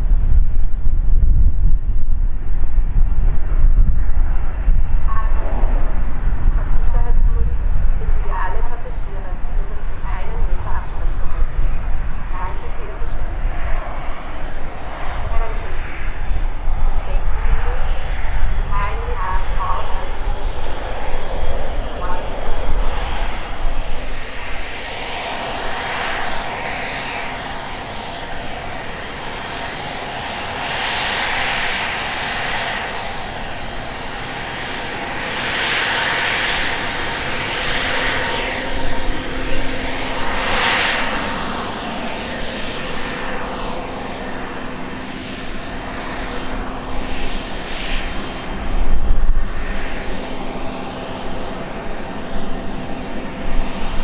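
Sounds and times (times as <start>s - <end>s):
jet engines whining at low power: 0.0s - 54.0s.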